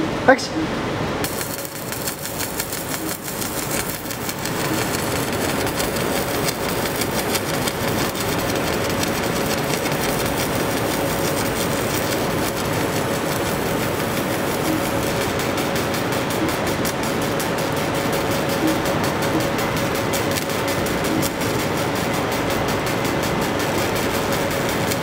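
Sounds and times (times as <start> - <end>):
laser marker buzzing hiss: 1.2 - 25.0.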